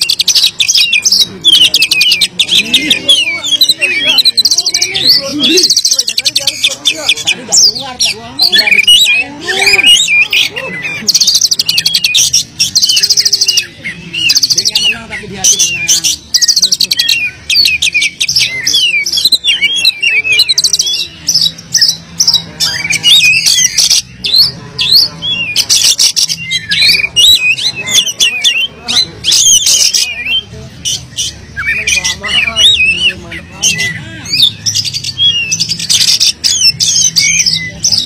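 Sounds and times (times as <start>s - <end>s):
bird singing varied song: 0.0s - 38.0s.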